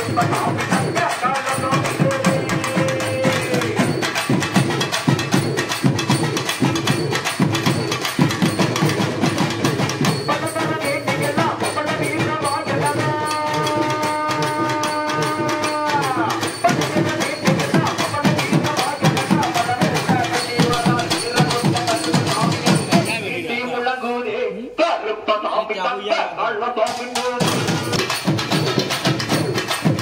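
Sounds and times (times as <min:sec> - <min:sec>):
fast ritual drumming: 0:00.0 - 0:23.8, 0:26.8 - 0:30.0.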